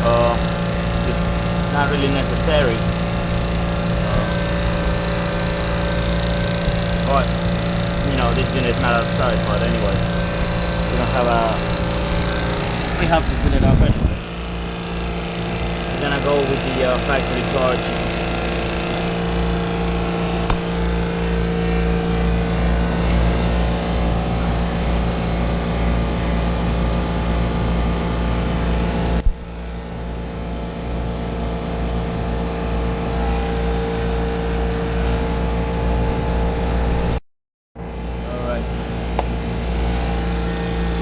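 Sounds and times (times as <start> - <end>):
compressor and fan humming: 0.0 - 37.2, 37.8 - 41.0.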